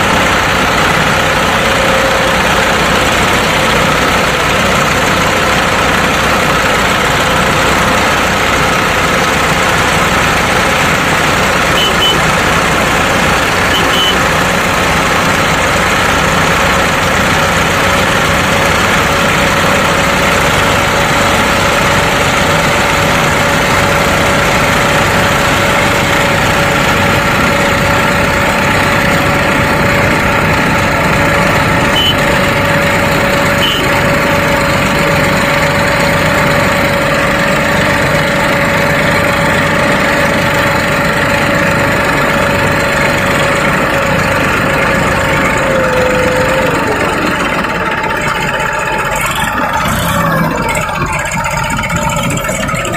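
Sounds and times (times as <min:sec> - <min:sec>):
tractor engine idling: 0:00.0 - 0:52.9.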